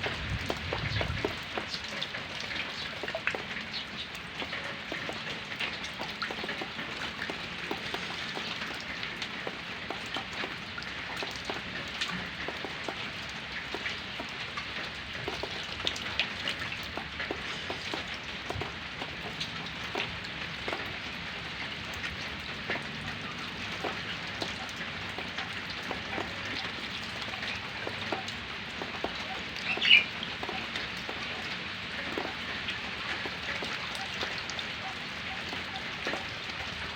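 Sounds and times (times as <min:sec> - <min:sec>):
rain drops pattering: 0:00.0 - 0:36.9.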